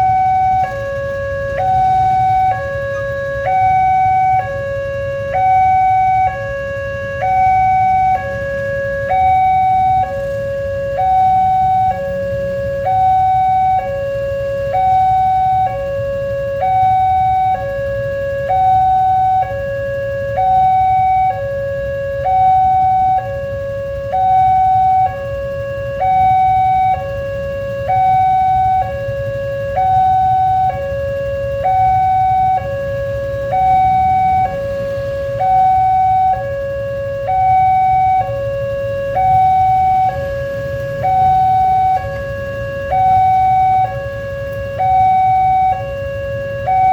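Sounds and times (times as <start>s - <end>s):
level crossing two-tone alarm: 0.0s - 46.9s.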